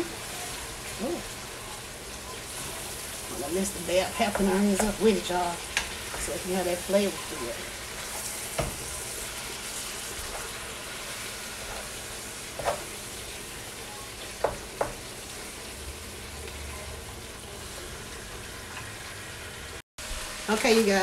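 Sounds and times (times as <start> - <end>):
meat sizzling in a pot: 0.0 - 21.0.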